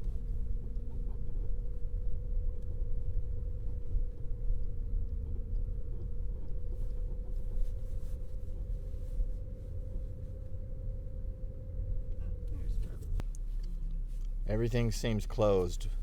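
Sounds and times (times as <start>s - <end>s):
car engine and road rumble: 0.0s - 16.0s
thin constant hum: 0.0s - 16.0s.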